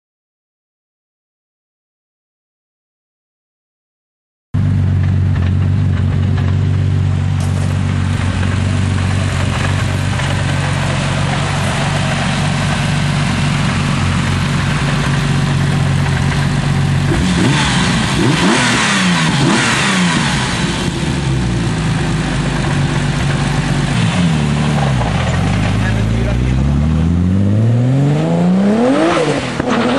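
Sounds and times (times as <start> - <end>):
car engine idling and revving: 4.6 - 29.9.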